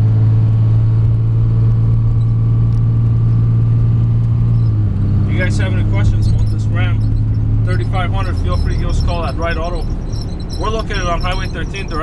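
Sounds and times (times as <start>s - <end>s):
diesel engine drone from inside cab: 0.0s - 12.0s.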